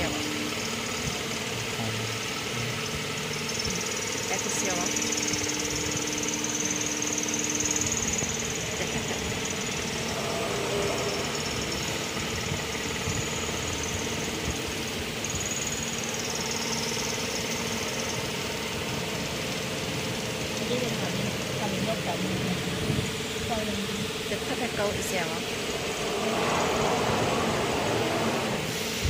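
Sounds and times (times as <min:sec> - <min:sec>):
faint high whine: 0:00.0 - 0:28.8
machine mechanical hum: 0:00.0 - 0:29.0.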